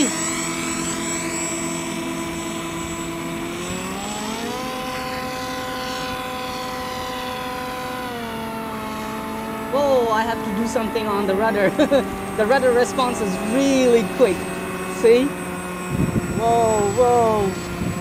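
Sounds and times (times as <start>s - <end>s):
model plane propeller whining: 0.0s - 18.0s.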